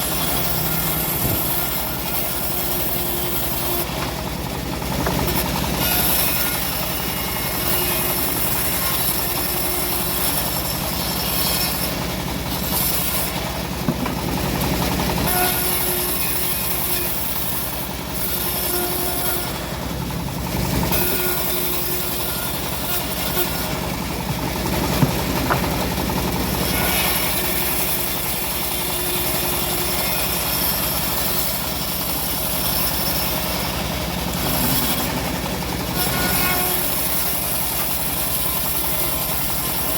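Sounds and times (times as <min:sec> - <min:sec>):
saw cutting hiss: 0:00.0 - 0:04.0, 0:05.0 - 0:13.6, 0:14.4 - 0:20.1, 0:20.8 - 0:39.9
sawmill engine humming: 0:00.0 - 0:39.9.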